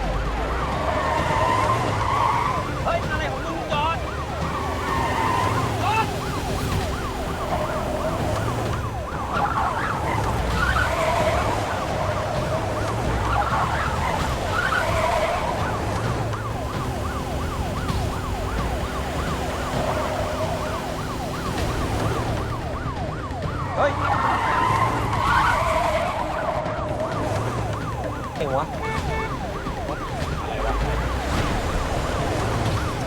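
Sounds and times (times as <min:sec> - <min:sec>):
car engine running: 0:00.0 - 0:33.0
siren yelping: 0:00.0 - 0:33.0.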